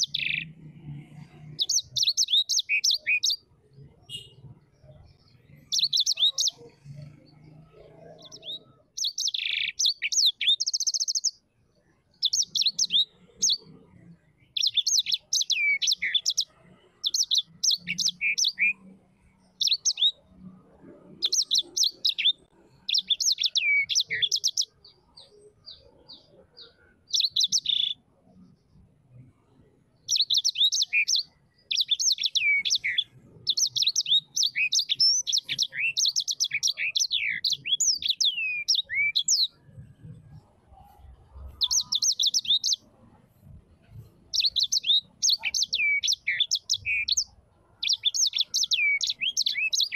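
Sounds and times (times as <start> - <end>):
small bird chirping and trilling: 0.0 - 11.4, 12.1 - 13.8, 14.4 - 20.4, 21.0 - 28.4, 30.0 - 39.6, 40.7 - 42.9, 43.9 - 49.9.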